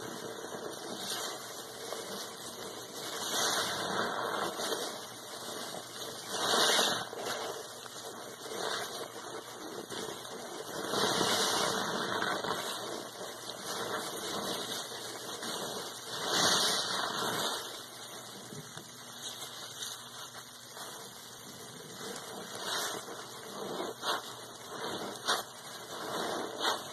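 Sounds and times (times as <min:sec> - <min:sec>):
crackling soap suds: 0:00.0 - 0:26.9
wet sponge squelching: 0:00.0 - 0:26.9.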